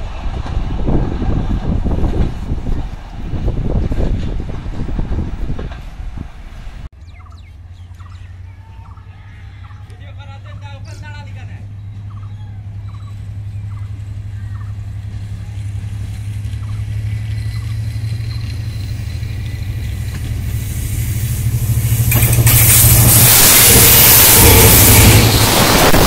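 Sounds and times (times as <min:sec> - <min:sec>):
locomotive engine drone: 0:00.0 - 0:26.0
wheels rushing on rail: 0:00.0 - 0:26.0.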